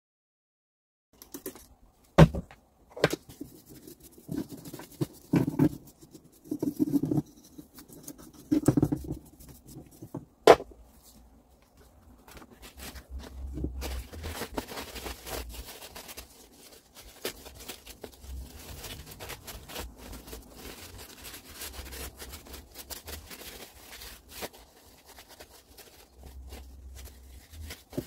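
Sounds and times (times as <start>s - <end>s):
rubbing and scraping: 2.9s - 28.0s.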